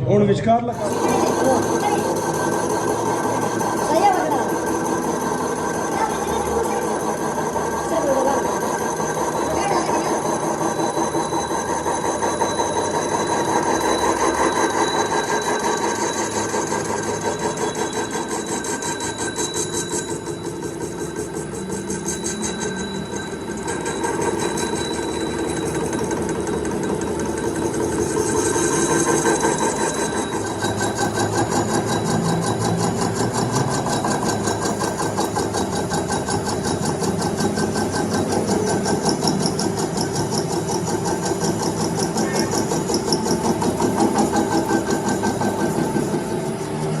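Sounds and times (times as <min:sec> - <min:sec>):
machine motor clattering: 0:00.7 - 0:47.0.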